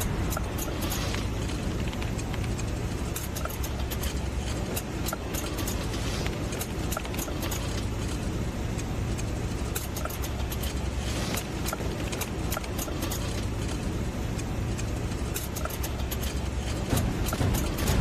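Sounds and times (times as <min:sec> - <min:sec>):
car engine rumbling: 0:00.0 - 0:18.0
metallic clicks and scraping underneath: 0:00.0 - 0:18.0.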